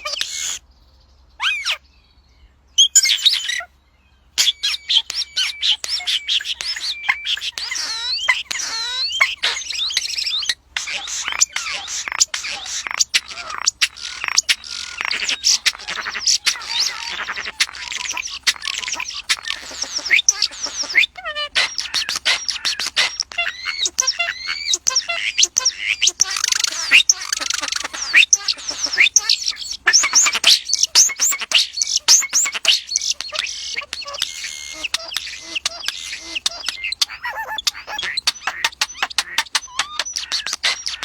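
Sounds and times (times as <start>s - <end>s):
birds chirping in chorus: 0.0s - 41.0s.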